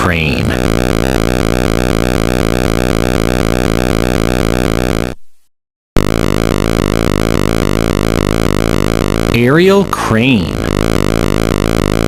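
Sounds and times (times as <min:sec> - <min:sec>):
pulsing synthesizer drone: 0:00.0 - 0:05.2, 0:06.0 - 0:12.0.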